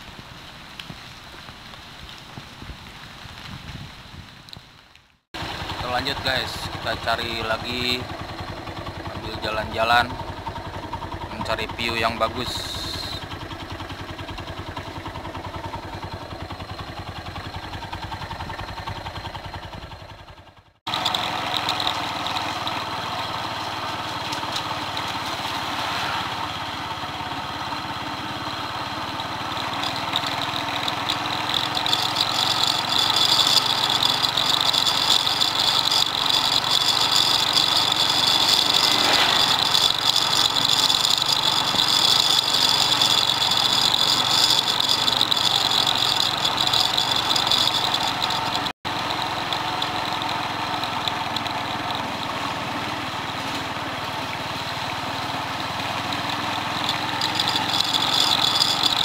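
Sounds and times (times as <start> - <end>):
road noise: 0.0 - 59.0
motorcycle engine running: 0.1 - 59.0.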